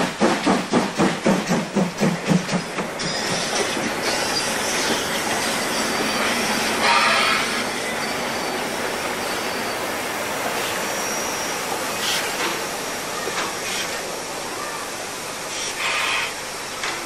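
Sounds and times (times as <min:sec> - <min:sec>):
train wheels rushing on rails: 0:00.0 - 0:17.0.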